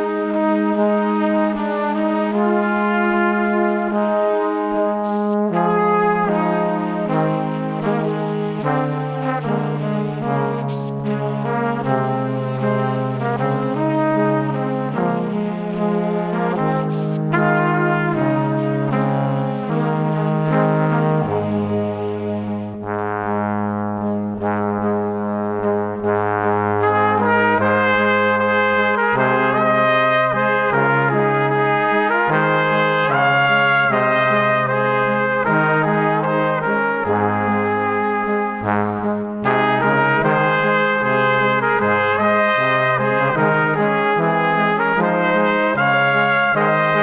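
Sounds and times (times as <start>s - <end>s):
brass background music: 0.0s - 47.0s.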